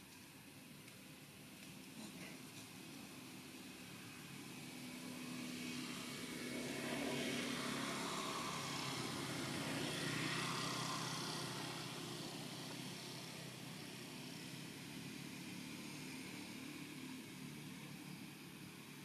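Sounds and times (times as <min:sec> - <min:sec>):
passing vehicle engine: 0:03.2 - 0:19.0.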